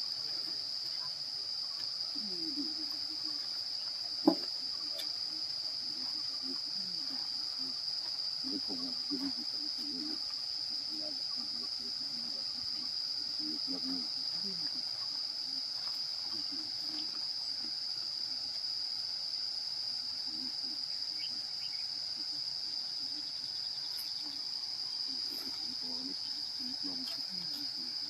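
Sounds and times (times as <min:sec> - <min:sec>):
faint voices murmuring: 0:00.0 - 0:19.1, 0:19.7 - 0:28.0
high-pitched insect drone: 0:00.0 - 0:28.0.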